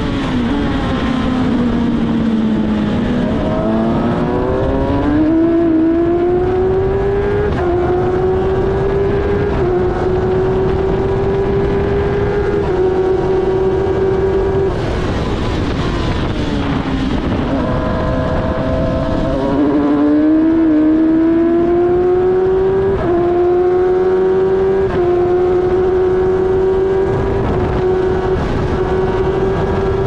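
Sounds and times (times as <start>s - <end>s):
race car engine at full throttle: 0.0s - 30.0s.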